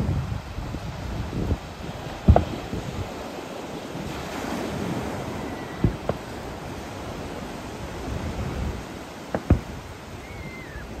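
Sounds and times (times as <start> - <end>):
surf breaking on beach: 0.0 - 11.0
distant fireworks bangs: 1.5 - 11.0.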